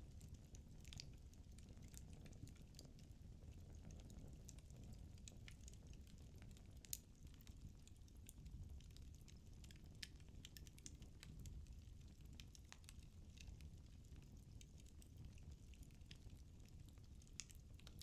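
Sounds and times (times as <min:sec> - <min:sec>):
low rumble of flame: 0:00.0 - 0:18.0
wood fire crackling and popping: 0:00.1 - 0:18.0.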